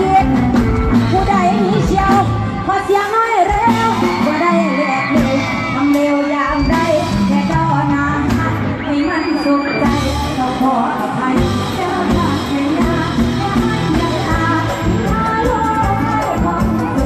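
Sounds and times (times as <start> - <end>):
steady drum beat: 0.0 - 8.8, 9.8 - 17.0
live band with singer: 0.0 - 17.0.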